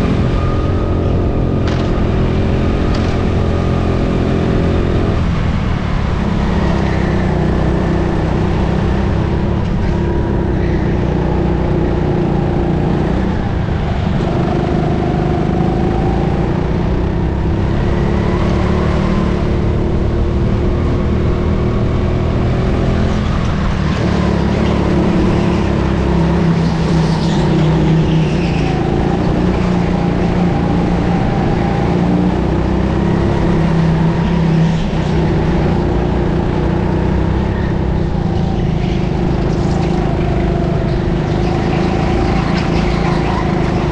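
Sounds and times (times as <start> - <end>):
go-kart engine running hard: 0.0 - 43.9.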